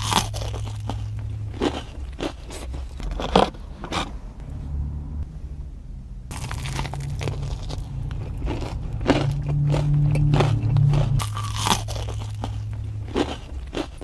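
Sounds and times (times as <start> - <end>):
chewing: 0.0 - 4.1, 6.3 - 14.0
crunchy bites: 0.0 - 4.2, 6.3 - 14.0
low hum: 0.0 - 14.0.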